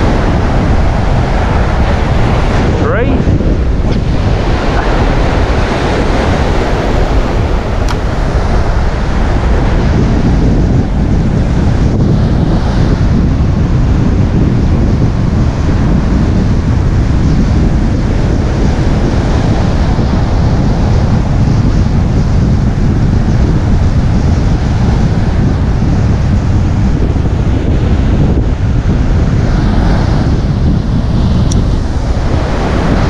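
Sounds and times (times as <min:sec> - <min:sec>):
waves breaking: 0:00.0 - 0:33.0
wind buffeting microphone: 0:00.0 - 0:33.0.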